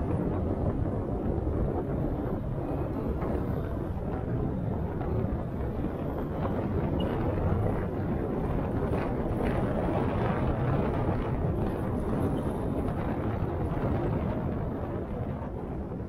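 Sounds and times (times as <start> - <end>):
car road noise rumble: 0.0 - 16.0.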